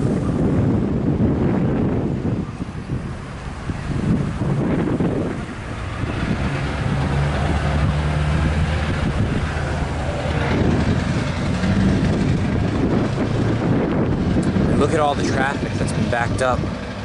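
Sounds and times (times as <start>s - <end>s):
engines idling: 0.0s - 17.0s
traffic noise: 0.0s - 17.0s.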